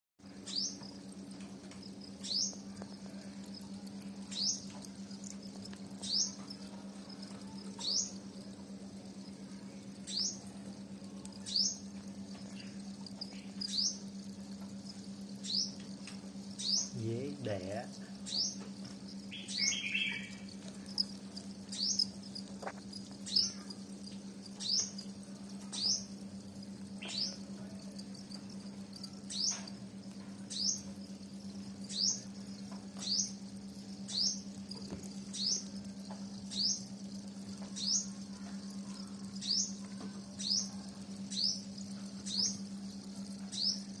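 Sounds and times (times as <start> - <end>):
low electrical hum: 0.2 - 44.0
small animal chirping: 0.3 - 44.0.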